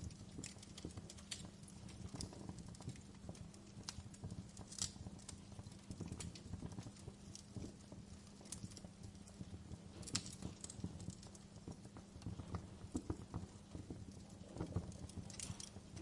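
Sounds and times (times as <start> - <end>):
low hiss of flames: 0.0 - 16.0
wood fire crackling and popping: 0.0 - 16.0.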